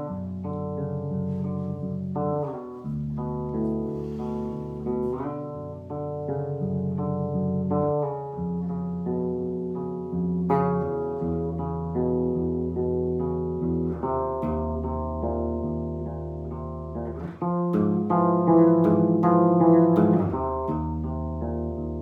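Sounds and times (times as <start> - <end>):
bass playing jazz chords: 0.0 - 22.0.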